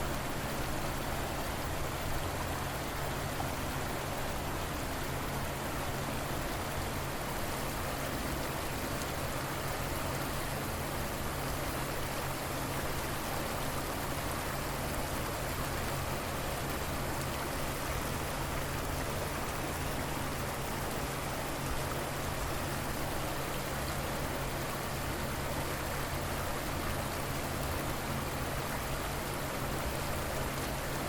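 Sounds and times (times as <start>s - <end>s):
river water flowing: 0.0s - 31.0s.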